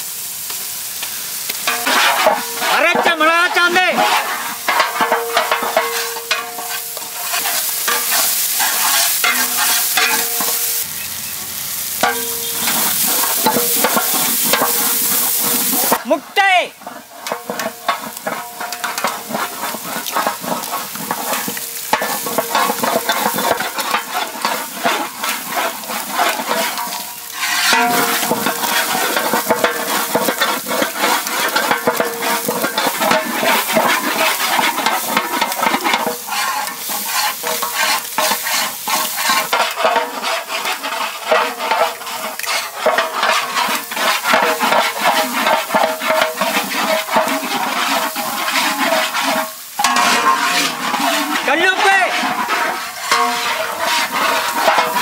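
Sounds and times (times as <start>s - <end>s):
eggs sizzling in oil: 0.0s - 55.0s
ladle scraping metal pot: 1.6s - 10.8s, 12.0s - 55.0s.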